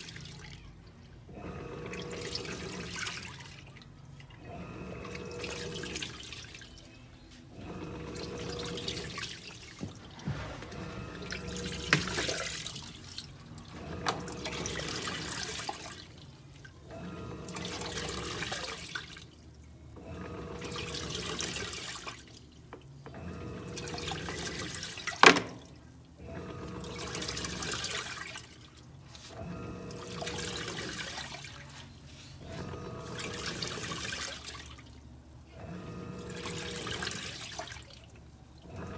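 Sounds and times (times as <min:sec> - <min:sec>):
faint motor hum: 0:00.0 - 0:38.9
washing machine water sloshing: 0:00.0 - 0:38.9.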